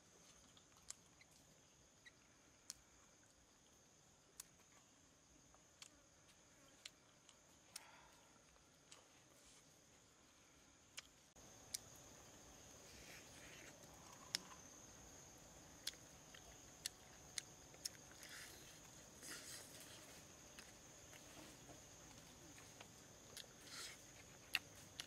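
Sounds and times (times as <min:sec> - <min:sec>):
crunchy chewing: 0:00.2 - 0:03.4, 0:05.6 - 0:09.7, 0:10.9 - 0:25.0.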